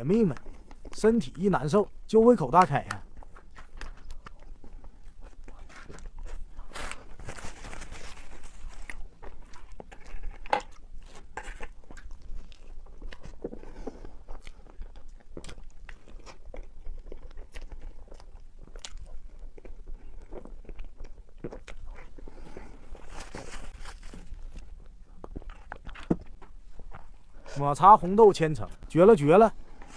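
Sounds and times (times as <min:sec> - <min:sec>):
biting and chewing cake: 0:00.0 - 0:29.9.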